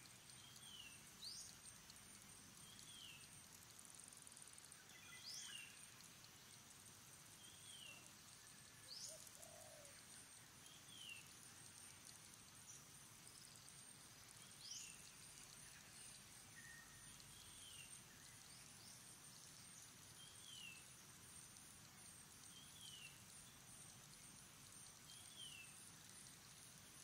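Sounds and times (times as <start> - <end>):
faint high-pitched hiss: 0.0 - 27.0.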